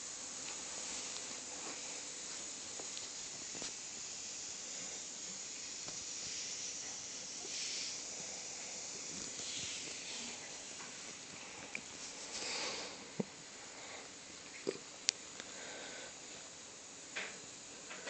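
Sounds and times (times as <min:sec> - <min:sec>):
faint background hiss: 0:00.0 - 0:18.0.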